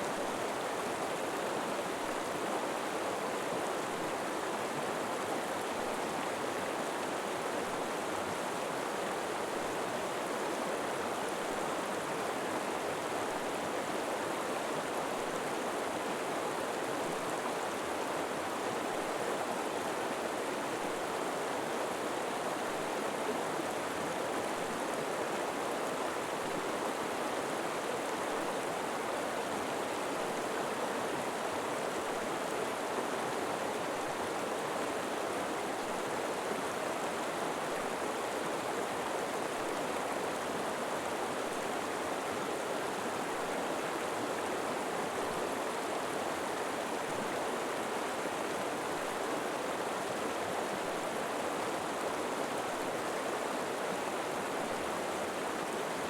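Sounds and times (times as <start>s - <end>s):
river water flowing over rocks: 0.0s - 56.0s.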